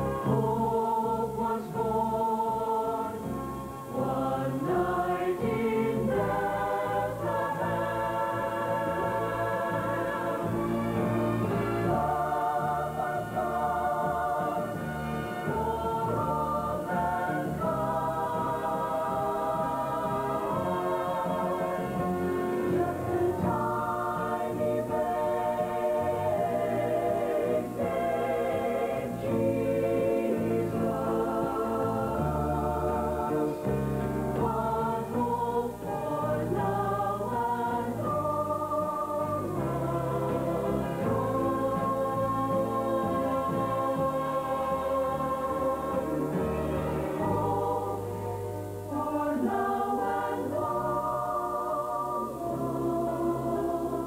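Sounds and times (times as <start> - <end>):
instrumental accompaniment with bass: 0.0 - 54.0
mixed group singing in harmony: 0.0 - 54.0.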